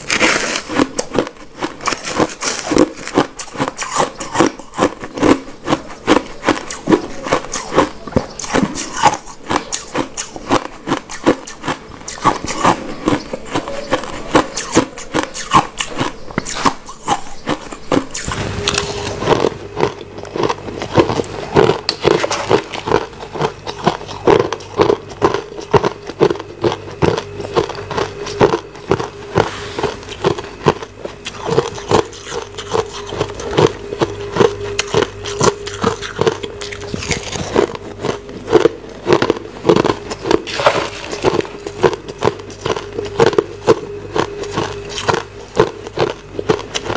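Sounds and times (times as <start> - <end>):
crushed ice being chewed: 0.0 - 46.9
steady low hum: 0.0 - 46.9.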